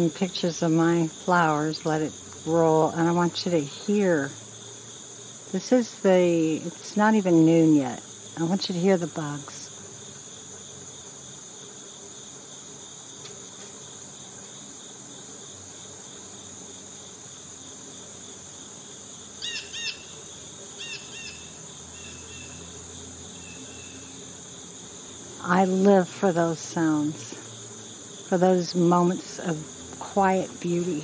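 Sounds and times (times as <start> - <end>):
cicadas and crickets droning: 0.0 - 31.0.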